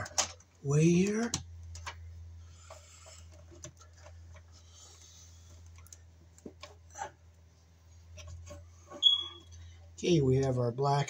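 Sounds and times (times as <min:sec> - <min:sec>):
wires clicking and rustling: 0:00.0 - 0:07.4, 0:08.0 - 0:10.0
steady low hum: 0:00.0 - 0:11.0.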